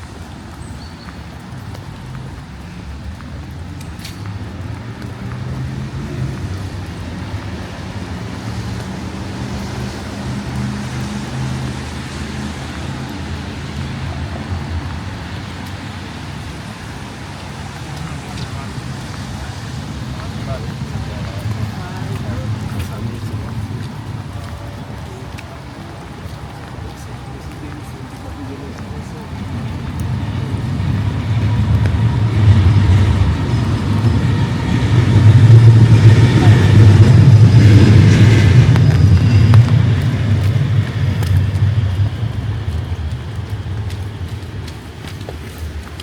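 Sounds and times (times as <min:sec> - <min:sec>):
traffic hiss: 0:00.0 - 0:46.0
vehicle engine humming: 0:01.4 - 0:46.0.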